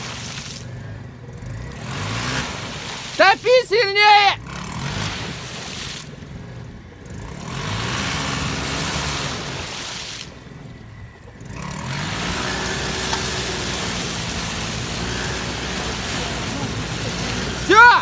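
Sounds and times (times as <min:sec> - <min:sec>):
car engine revving hard: 0:00.0 - 0:18.0
wheels spinning in mud: 0:00.0 - 0:18.0.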